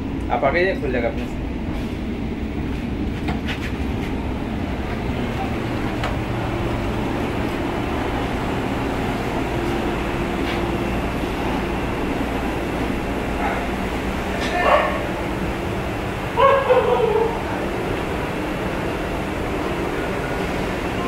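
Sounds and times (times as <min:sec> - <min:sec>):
train coach rumble and hum: 0:00.0 - 0:21.0.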